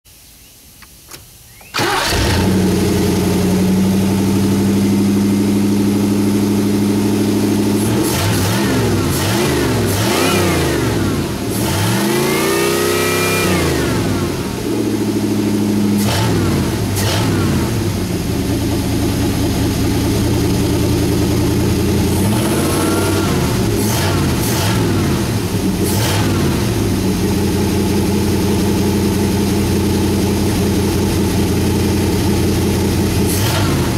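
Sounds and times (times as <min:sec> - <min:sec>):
car engine idling and revving: 0:01.8 - 0:33.9.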